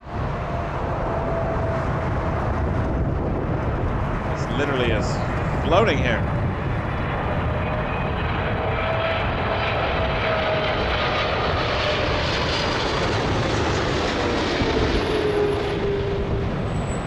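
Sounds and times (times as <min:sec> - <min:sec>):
jet engines roaring: 0:00.0 - 0:17.0
wind rumbling on microphone: 0:00.0 - 0:17.0.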